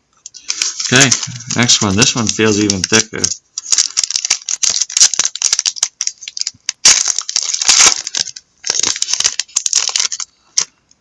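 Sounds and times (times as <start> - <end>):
foil wrapper crinkling: 0.4 - 10.7.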